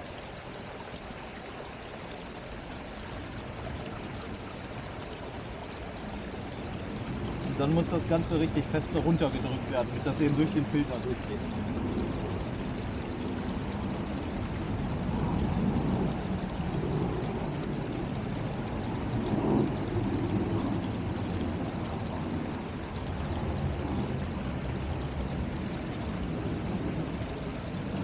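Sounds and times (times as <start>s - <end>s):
creek rushing over its bed: 0.0s - 28.0s.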